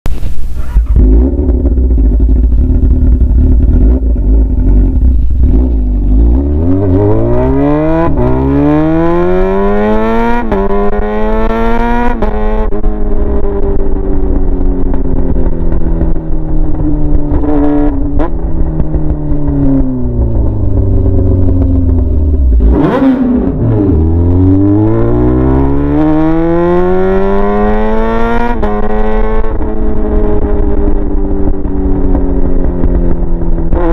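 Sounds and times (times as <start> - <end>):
motorcycle engine revving: 0.6 - 33.9.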